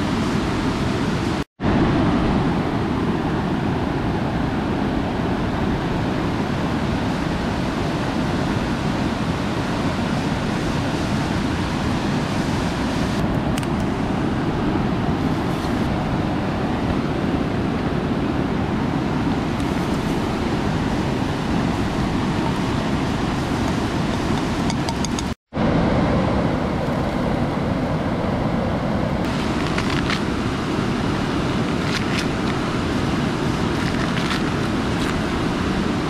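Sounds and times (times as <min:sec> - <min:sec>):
river rushing over rocks: 0:00.0 - 0:36.0.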